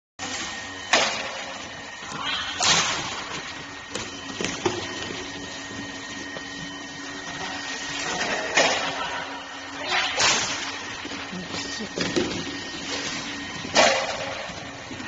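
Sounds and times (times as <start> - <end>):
shuttlecock machine humming: 0.2 - 15.0.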